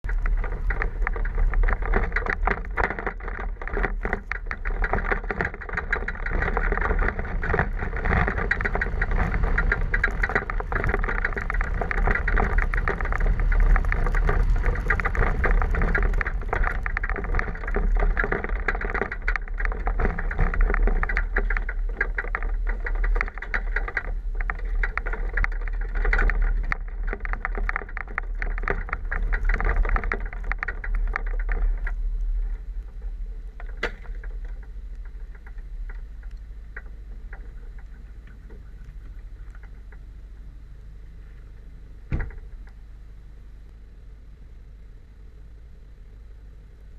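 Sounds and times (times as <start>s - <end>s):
small knocks and rattles: 0.0s - 42.8s
vehicle engine and tyres rumbling: 0.0s - 46.9s.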